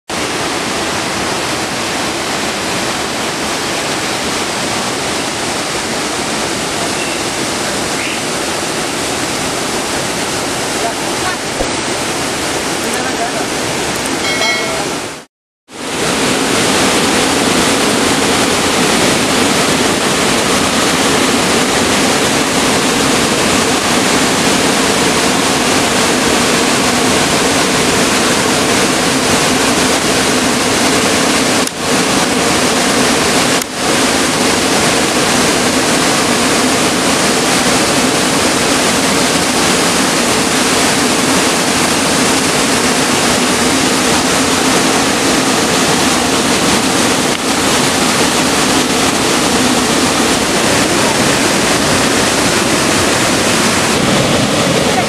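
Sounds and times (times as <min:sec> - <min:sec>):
waterfall rushing into pool: 0:00.1 - 0:55.0.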